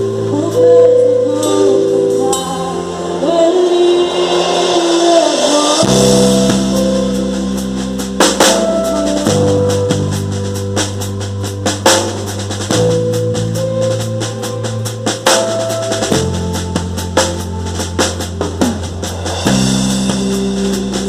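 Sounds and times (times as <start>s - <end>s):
band chords: 0.0s - 21.0s
drum and cymbal hits: 0.0s - 21.0s.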